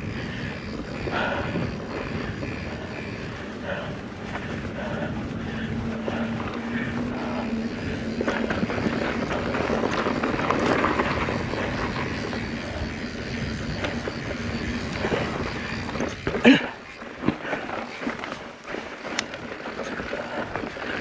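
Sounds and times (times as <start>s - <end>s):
bike clicks and rattles: 0.0s - 21.0s
bike tyres on dirt trail: 0.0s - 21.0s.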